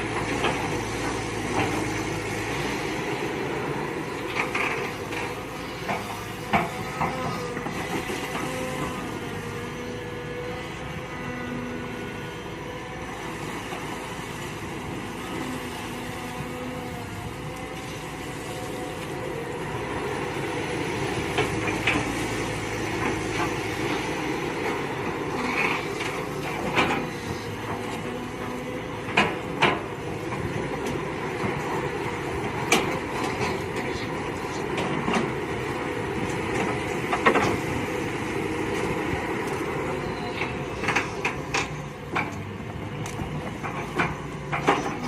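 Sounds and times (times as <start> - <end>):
excavator engine running: 0.0 - 45.0.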